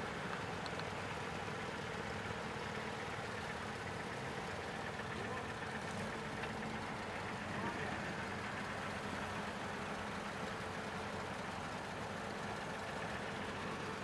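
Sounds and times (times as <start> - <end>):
car engines idling: 0.0 - 14.0.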